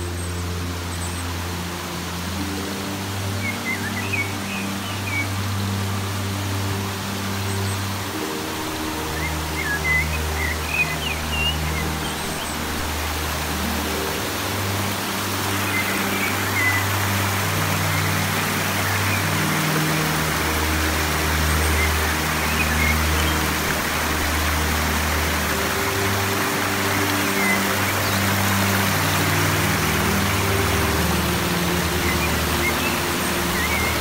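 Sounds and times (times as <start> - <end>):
creek water rushing over boulders: 0.0 - 34.0.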